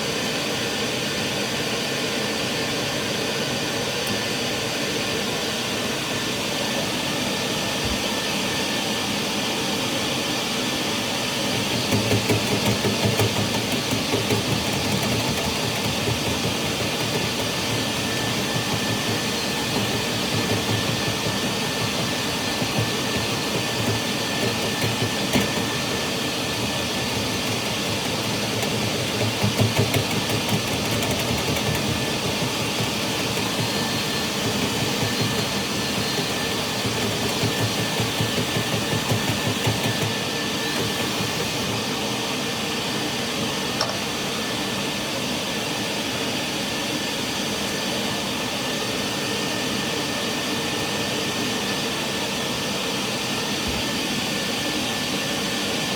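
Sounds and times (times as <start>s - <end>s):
vacuum running with whine: 0.0s - 55.9s.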